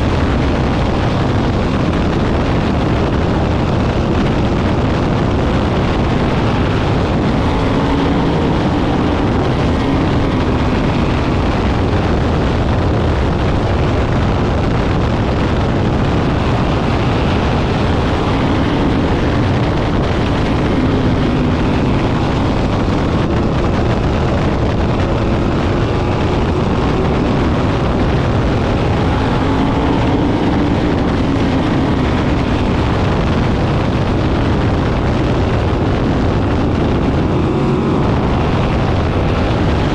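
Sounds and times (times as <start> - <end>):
race car engines passing: 0.0 - 13.2, 14.2 - 39.9.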